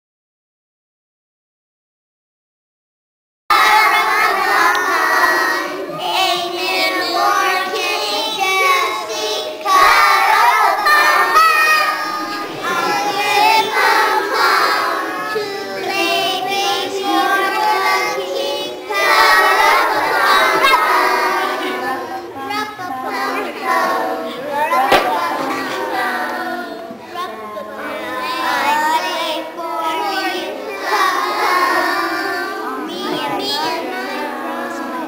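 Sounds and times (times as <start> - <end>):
children singing in choir: 3.5 - 35.0.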